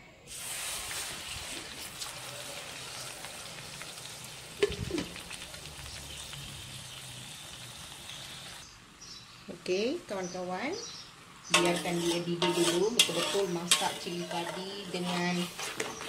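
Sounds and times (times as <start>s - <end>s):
spice paste sizzling in oil: 0.3s - 9.2s, 10.1s - 16.0s.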